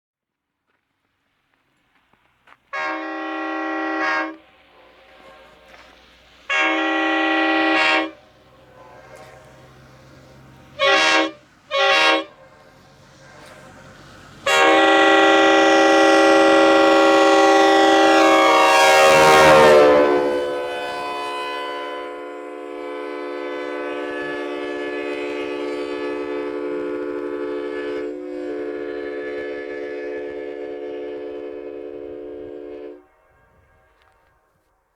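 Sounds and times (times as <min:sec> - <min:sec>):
locomotive air horn blasts: 0:02.7 - 0:34.9.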